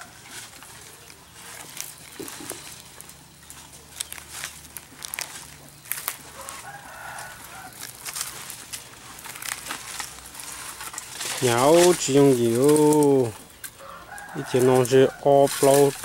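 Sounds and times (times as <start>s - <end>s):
chickens calling: 0.0s - 16.0s
rustles: 0.0s - 16.0s.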